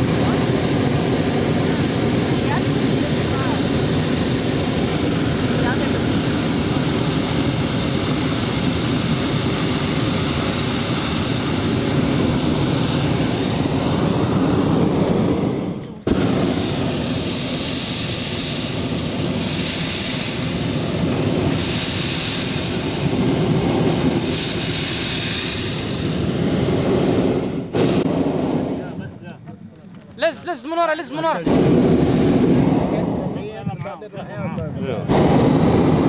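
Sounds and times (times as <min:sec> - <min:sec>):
propane burner roaring: 0:00.0 - 0:30.1, 0:31.0 - 0:36.0.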